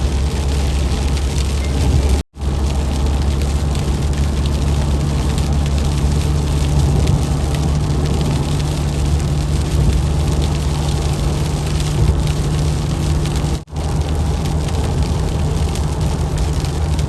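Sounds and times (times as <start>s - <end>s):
engine and road hum: 0.0s - 17.0s
raindrops ticking on car: 0.0s - 17.0s.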